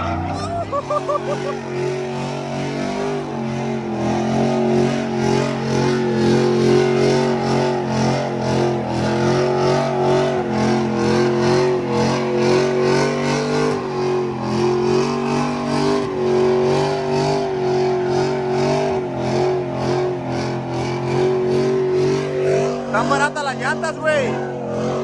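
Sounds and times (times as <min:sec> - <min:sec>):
engine running at high revs: 0:00.0 - 0:25.0.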